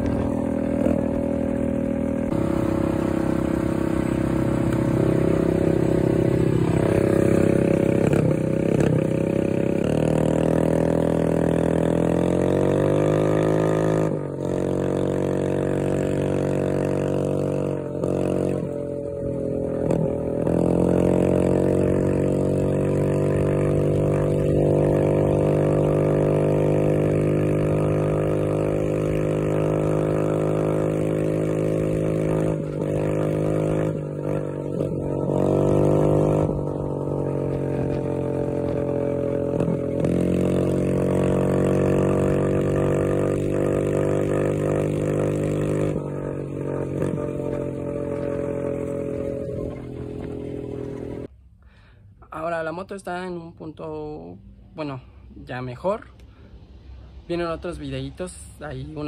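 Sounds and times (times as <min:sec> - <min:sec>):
motorcycle engine revving: 0:00.0 - 0:51.3.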